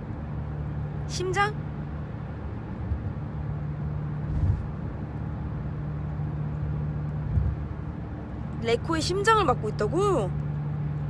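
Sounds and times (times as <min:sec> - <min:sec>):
car engine hum: 0:00.0 - 0:11.0
road noise: 0:00.0 - 0:11.0.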